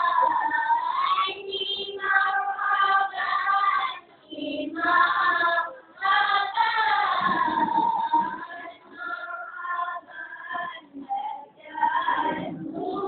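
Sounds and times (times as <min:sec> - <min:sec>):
boys singing devotional chant: 0:00.0 - 0:13.0.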